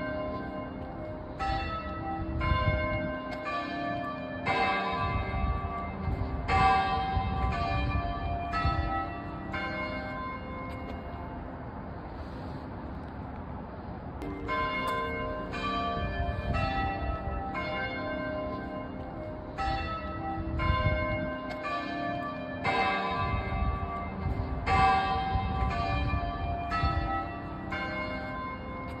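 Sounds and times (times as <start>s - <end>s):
tower bells ringing: 0.0s - 11.7s, 14.2s - 29.0s.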